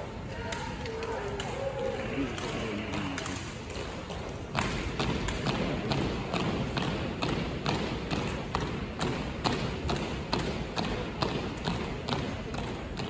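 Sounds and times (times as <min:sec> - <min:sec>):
low crowd hubbub: 0:00.0 - 0:13.0.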